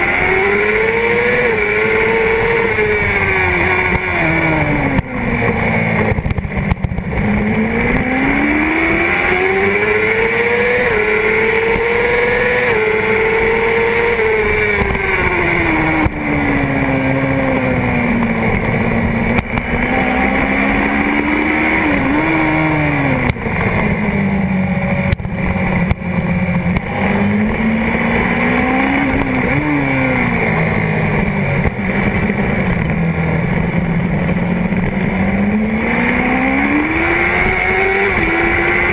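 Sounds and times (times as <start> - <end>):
motorcycle engine revving: 0.0 - 38.9
road noise: 0.0 - 38.9
wind noise: 0.0 - 38.9.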